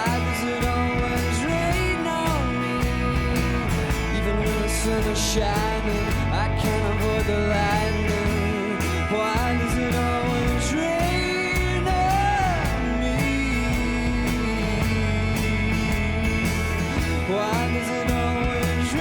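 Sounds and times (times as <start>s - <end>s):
indie rock band playing: 0.0s - 19.0s
person singing: 0.0s - 19.0s.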